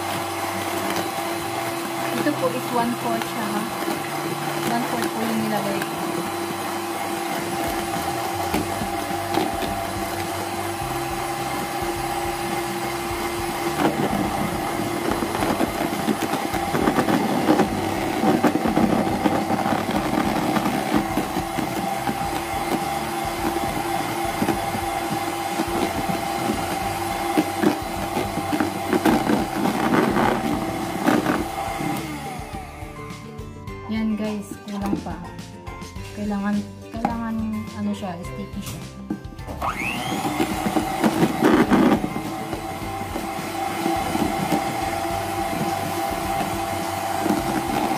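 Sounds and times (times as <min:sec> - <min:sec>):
electric hand mixer whining: 0:00.0 - 0:47.9.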